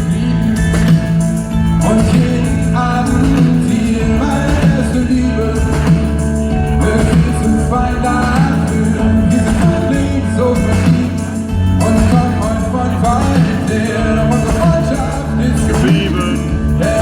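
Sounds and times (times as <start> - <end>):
pop-rock band playing live: 0.0 - 17.0
person singing: 1.8 - 17.0.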